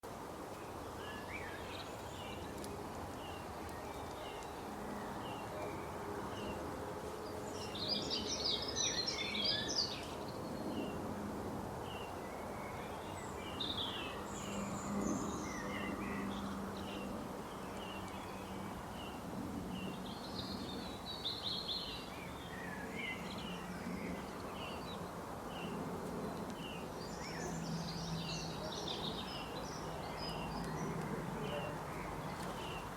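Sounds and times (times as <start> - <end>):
birds chirping: 0.0 - 11.0, 11.8 - 32.9
birdsong: 0.0 - 11.1, 11.8 - 32.9
steady background hiss: 0.1 - 32.9.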